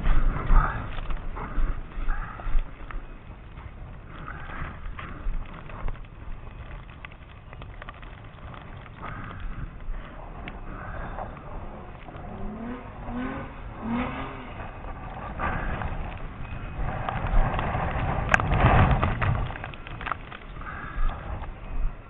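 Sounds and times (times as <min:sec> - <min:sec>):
car passing on snowy street: 0:00.0 - 0:22.0.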